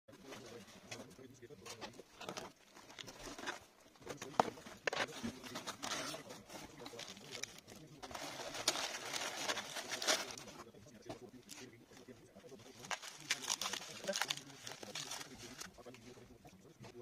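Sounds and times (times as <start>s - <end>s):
paper and plastic rustling: 0.1s - 17.0s.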